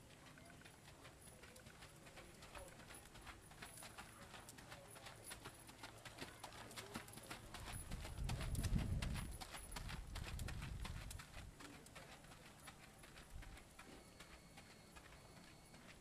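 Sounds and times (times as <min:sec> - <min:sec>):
horse hoofbeats on dirt: 0:00.0 - 0:16.0.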